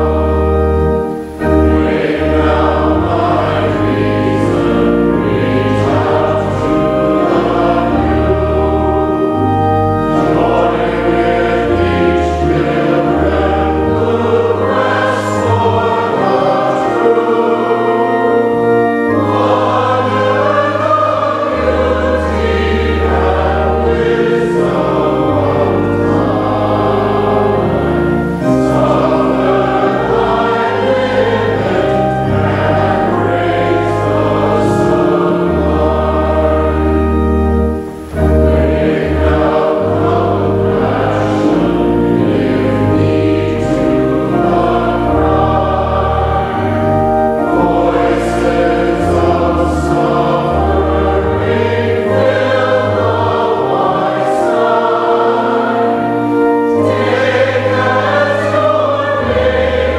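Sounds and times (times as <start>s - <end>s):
choir singing a hymn: 0.0s - 59.9s
keyboard bass notes: 0.0s - 59.9s.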